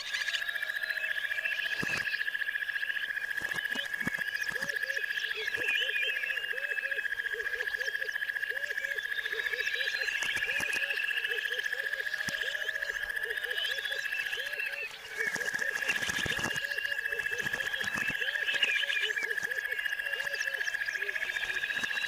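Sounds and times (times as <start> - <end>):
birds chirping: 0.0 - 22.0
frogs trilling: 0.0 - 22.0
short low frog calls: 0.0 - 22.0.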